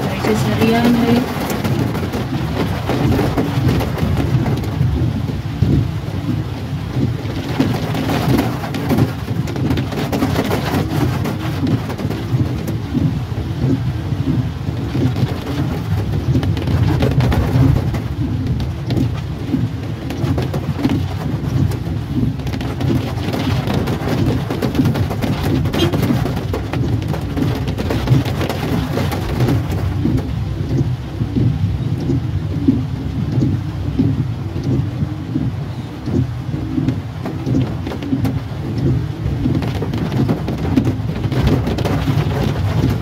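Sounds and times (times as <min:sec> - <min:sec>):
heavy rain on a car roof: 0:00.0 - 0:43.0
low rumble: 0:00.0 - 0:43.0.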